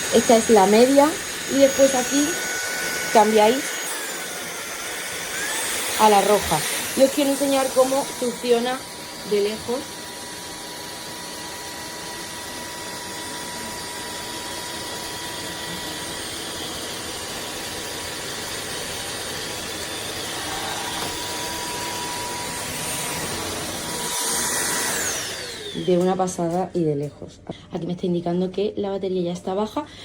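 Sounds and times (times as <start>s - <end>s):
vacuum motor whine: 0.0s - 26.6s.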